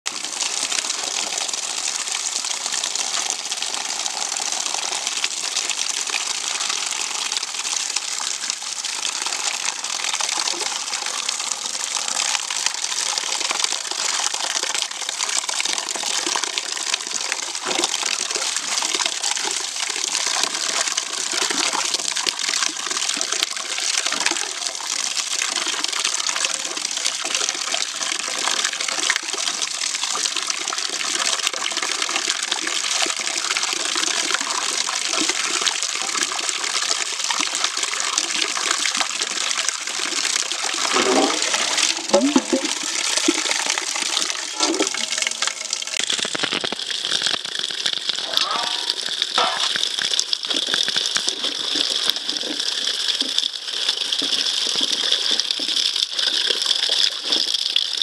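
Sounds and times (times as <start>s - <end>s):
running water: 0.1s - 58.0s.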